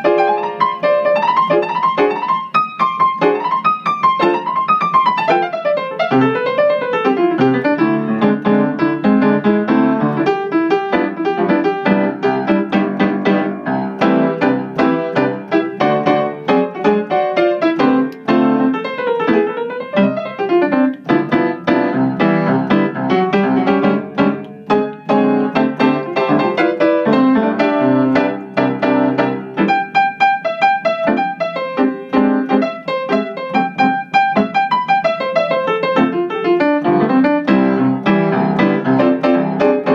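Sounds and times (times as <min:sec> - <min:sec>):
piano playing: 0:00.0 - 0:39.9.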